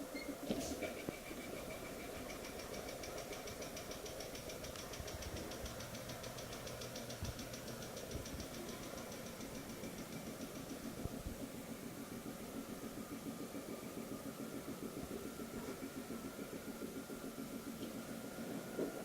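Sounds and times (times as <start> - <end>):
high machine whine: 0.0 - 19.0
low mechanical hum: 0.0 - 19.0.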